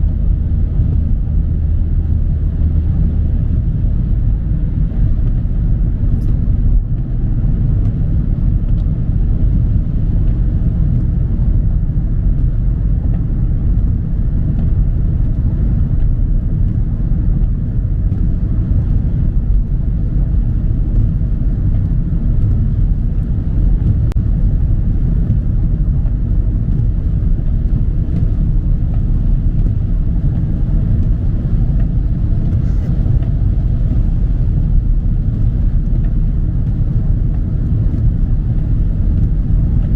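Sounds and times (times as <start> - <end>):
tyre noise on wet road: 0.0 - 39.9.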